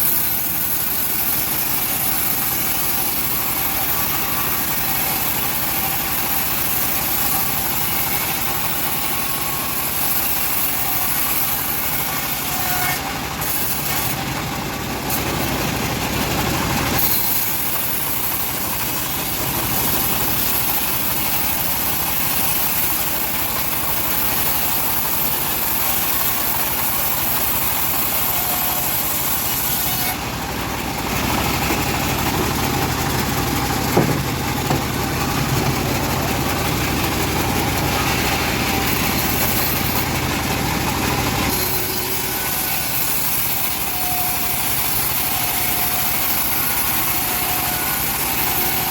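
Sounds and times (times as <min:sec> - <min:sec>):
bandsaw sawmill running: 0:00.0 - 0:48.9.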